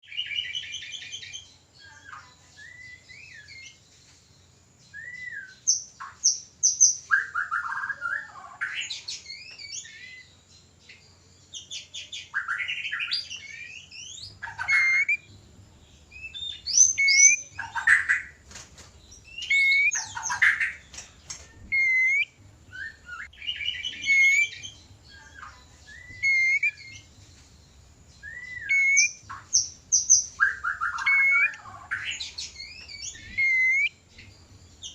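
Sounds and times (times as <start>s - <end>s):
songbird whistling and trilling: 0.0s - 3.8s, 4.8s - 10.4s, 11.5s - 15.3s, 16.1s - 18.4s, 19.2s - 27.2s, 28.1s - 34.9s.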